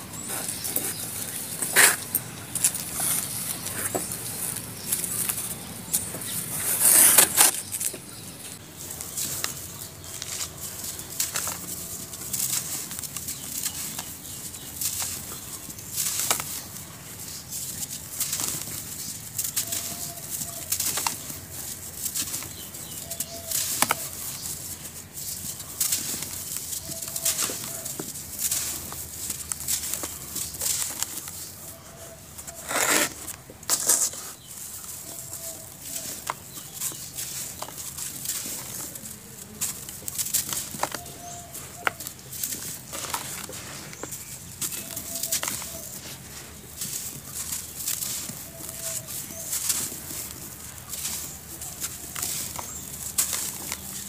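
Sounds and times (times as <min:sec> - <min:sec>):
hands crunching dry powder chunks: 0:00.0 - 0:54.0.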